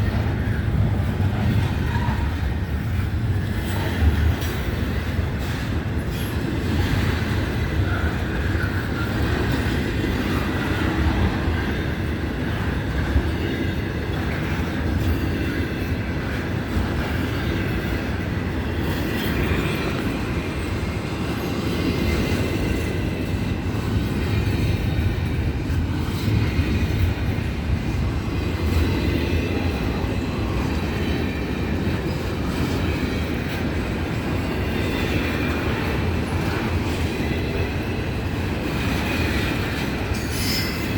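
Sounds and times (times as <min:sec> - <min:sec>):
rail clicks: 0:00.0 - 0:40.9
train wheels rumbling on rail: 0:00.0 - 0:40.9.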